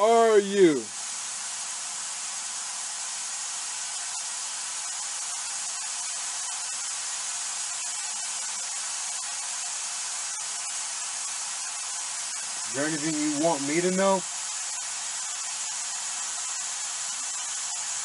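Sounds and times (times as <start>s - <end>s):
white noise hissing: 0.0s - 18.0s.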